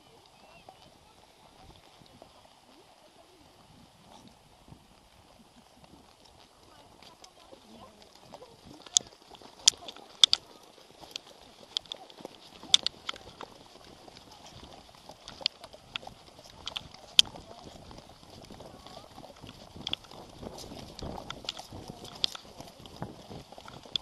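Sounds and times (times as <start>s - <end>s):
horse hooves clicking: 0.0s - 24.0s.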